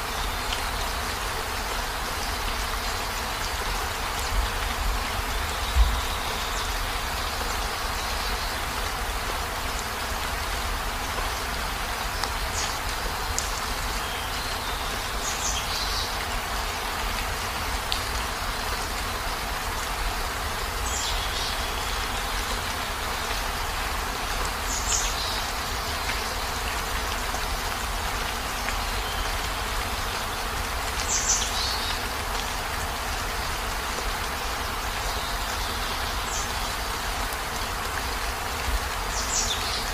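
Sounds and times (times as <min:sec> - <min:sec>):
heavy rain on a vehicle roof: 0:00.0 - 0:39.9.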